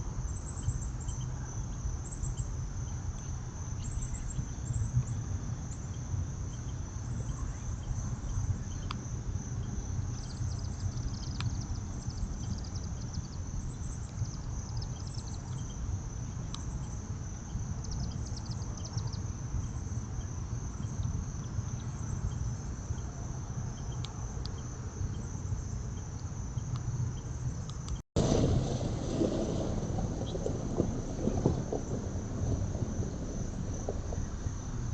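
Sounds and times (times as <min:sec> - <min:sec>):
crickets trilling: 0:00.0 - 0:34.9
low steady rumble: 0:00.0 - 0:34.9.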